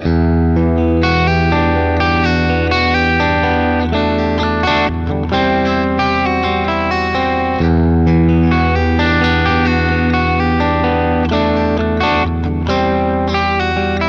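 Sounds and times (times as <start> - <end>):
electric guitar chords: 0.0 - 14.0.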